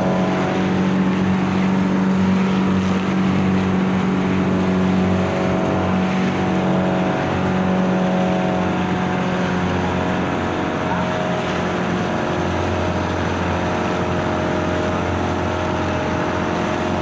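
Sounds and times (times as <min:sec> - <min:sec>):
boat engine running: 0:00.0 - 0:17.0
water rushing along hull: 0:00.0 - 0:17.0.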